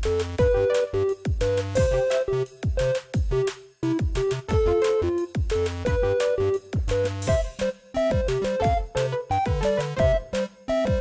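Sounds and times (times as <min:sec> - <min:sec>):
deep kick drum beat: 0:00.0 - 0:10.3.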